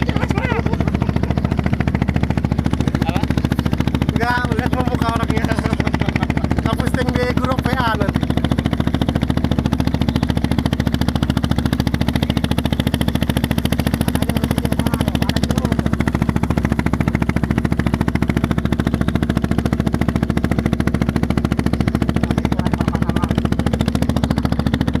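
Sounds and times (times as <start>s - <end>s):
boat engine chugging: 0.0s - 25.0s.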